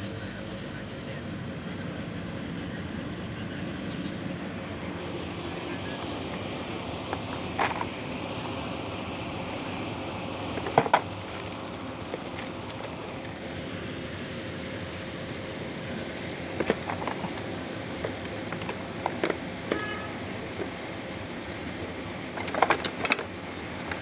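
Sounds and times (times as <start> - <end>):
air conditioner unit humming: 0.0 - 24.0.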